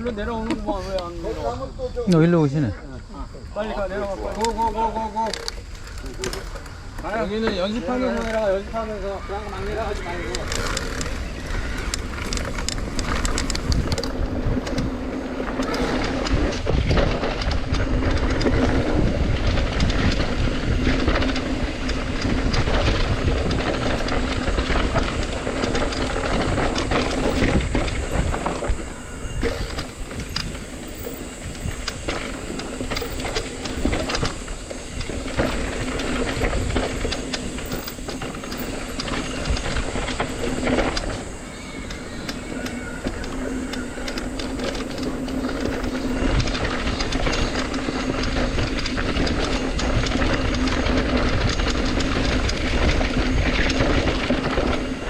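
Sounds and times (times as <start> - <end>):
bike rattling and clattering: 0.0 - 55.0
bike tyre rumble on trail: 0.0 - 55.0
wind noise on microphone: 0.0 - 55.0.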